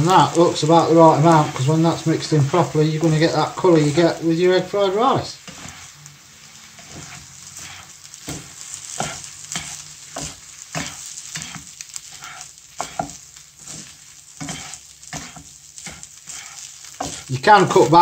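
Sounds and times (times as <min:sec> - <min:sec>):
rice sizzling in a frying pan: 0:00.0 - 0:18.0
utensils scraping rice and pan: 0:00.0 - 0:18.0.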